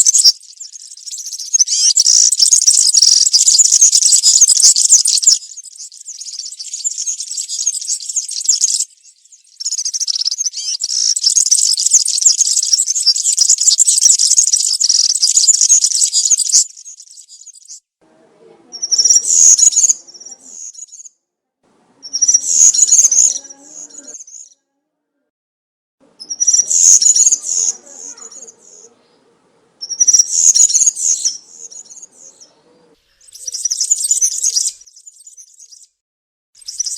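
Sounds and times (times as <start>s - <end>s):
small bird singing high song: 0.0s - 17.9s, 18.7s - 21.2s, 21.8s - 24.7s, 26.0s - 36.0s, 36.6s - 36.9s.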